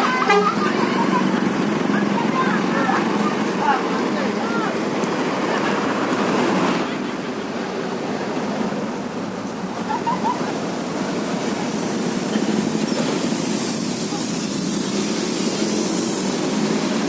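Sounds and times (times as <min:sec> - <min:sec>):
faint voices: 0:00.0 - 0:14.6
engine rumble: 0:00.0 - 0:17.0.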